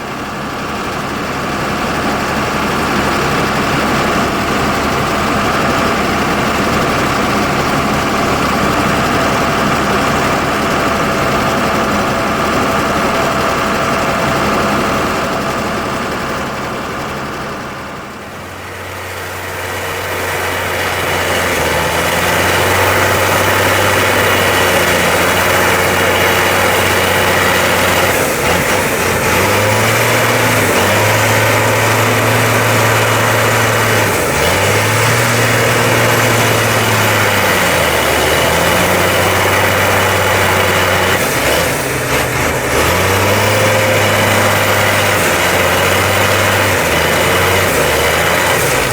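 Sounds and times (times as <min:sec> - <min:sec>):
harvester machinery: 0:00.0 - 0:48.9
tractor engines running under load: 0:00.0 - 0:48.9.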